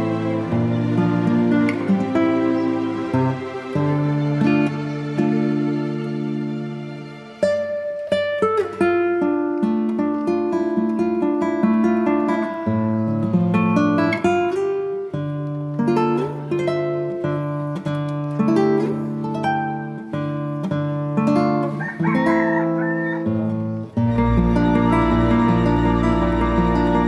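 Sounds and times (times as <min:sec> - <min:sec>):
plucked acoustic guitar melody: 0:00.0 - 0:27.0.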